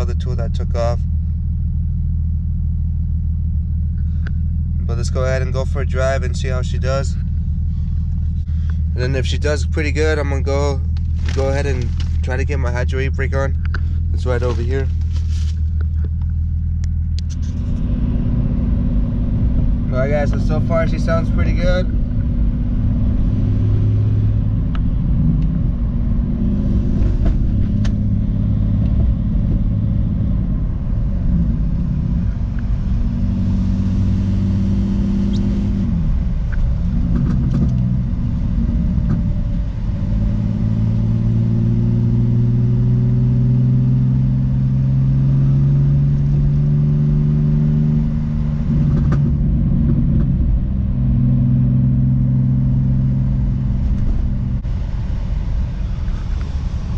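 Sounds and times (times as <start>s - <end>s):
car engine accelerating: 0.0s - 56.9s
road noise: 0.0s - 56.9s.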